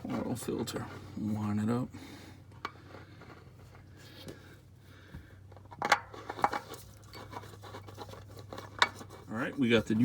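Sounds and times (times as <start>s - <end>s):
oil filter scraping and handling: 0.0s - 10.0s.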